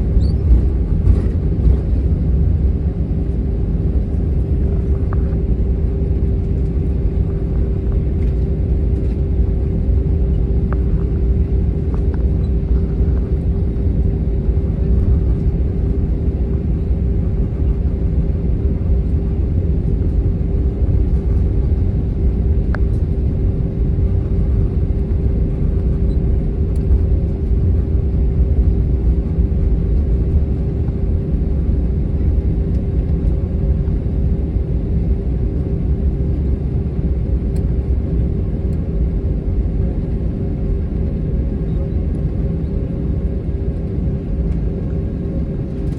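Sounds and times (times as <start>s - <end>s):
jet engines idling in cabin: 0.0s - 45.9s.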